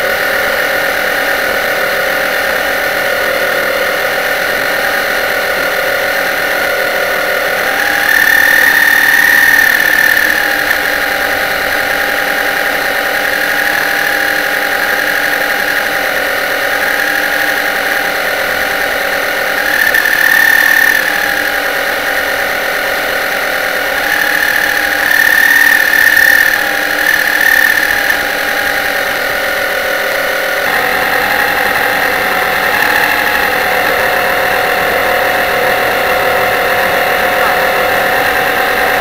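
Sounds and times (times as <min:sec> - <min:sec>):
model boat motor whining: 0:00.0 - 0:39.0.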